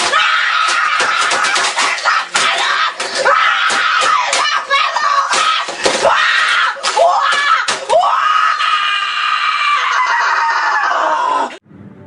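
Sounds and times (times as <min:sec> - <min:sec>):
boy screaming: 0:00.0 - 0:11.5.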